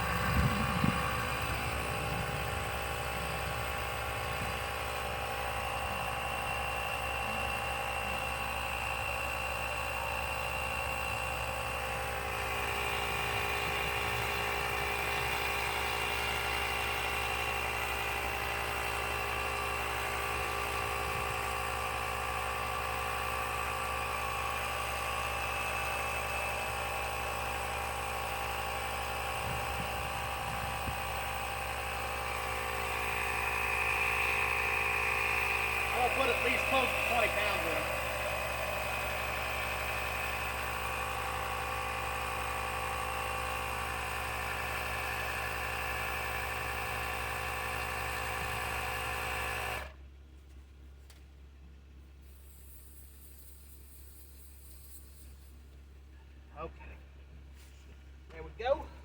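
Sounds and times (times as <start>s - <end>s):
air compressor whining: 0.0s - 50.0s.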